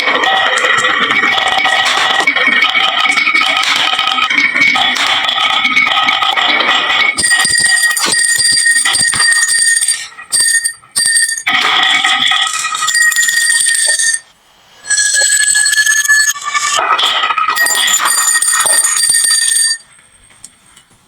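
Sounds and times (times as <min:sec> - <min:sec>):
marbles clattering down wooden run: 0:00.0 - 0:14.2, 0:16.0 - 0:19.8
bell-like ringing tones: 0:00.0 - 0:20.4.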